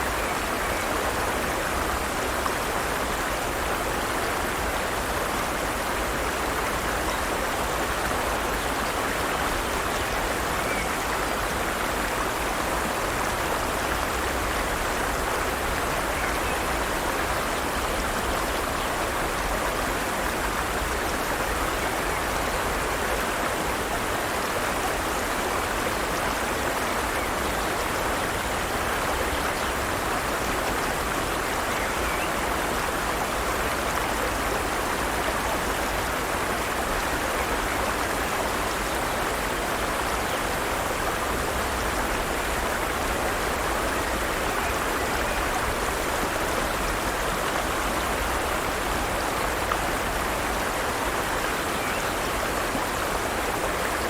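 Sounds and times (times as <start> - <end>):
stream water running over rocks: 0.0 - 54.0.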